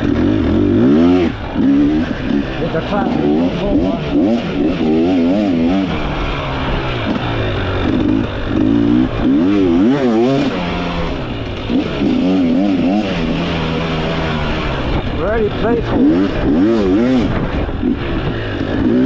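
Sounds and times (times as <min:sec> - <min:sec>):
two-stroke motorcycle engine revving: 0:00.0 - 0:19.0.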